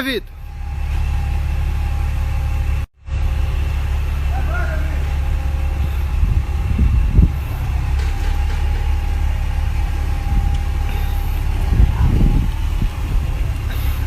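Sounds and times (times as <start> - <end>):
heavy engine rumbling: 0.0 - 14.0
loud bumps: 0.0 - 14.0.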